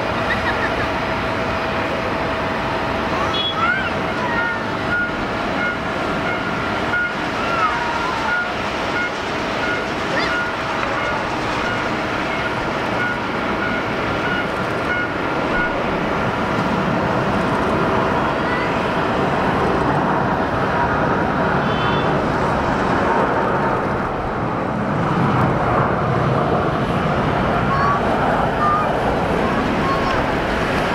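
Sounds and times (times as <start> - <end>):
jet engine whine: 0.0 - 30.9
jet engines roaring: 0.0 - 30.9.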